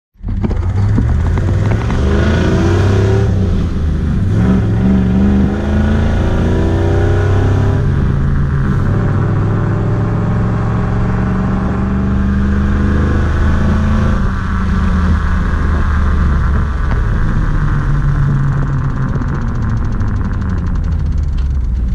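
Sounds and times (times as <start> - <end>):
truck engine accelerating through gears: 0.2 - 21.9.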